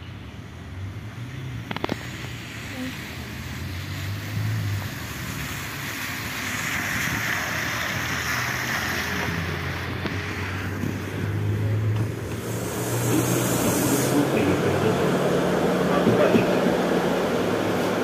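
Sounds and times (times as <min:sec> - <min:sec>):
tyre hiss on wet asphalt: 0:01.1 - 0:18.0.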